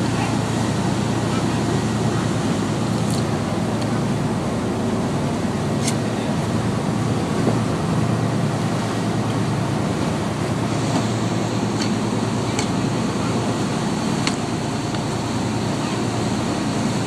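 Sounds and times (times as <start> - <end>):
boat engine running: 0.0 - 17.0
water rushing past hull: 0.0 - 17.0.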